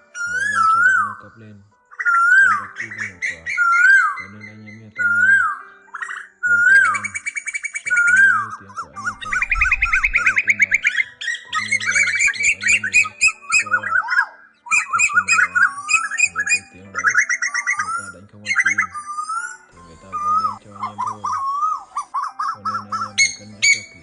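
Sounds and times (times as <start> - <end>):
koels calling: 0.0 - 24.0.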